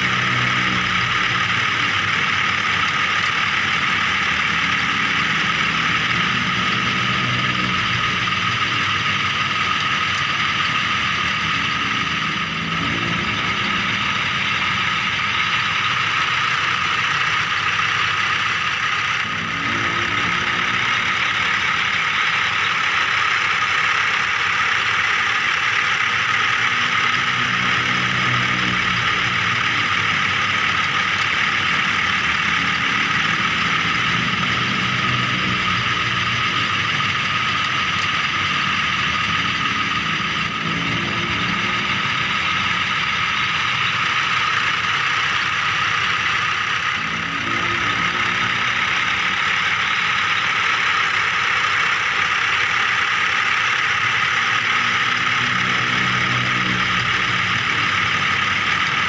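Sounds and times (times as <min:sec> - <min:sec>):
low-pitched drone: 0:00.0 - 0:59.0.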